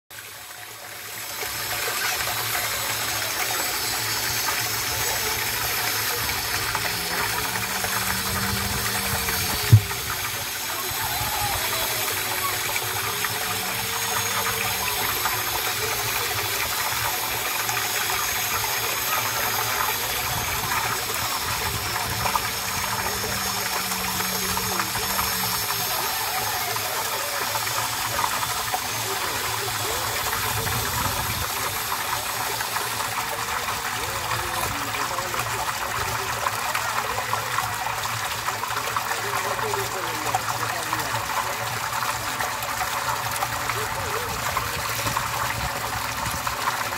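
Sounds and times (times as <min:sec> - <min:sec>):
water gushing from a pipe: 0:00.1 - 0:46.9
water splashing: 0:00.2 - 0:46.9.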